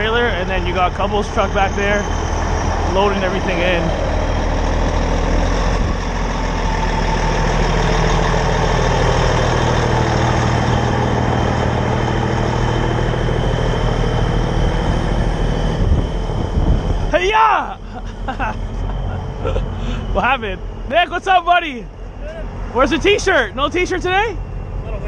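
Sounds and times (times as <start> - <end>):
diesel truck engines idling: 0.0 - 25.0.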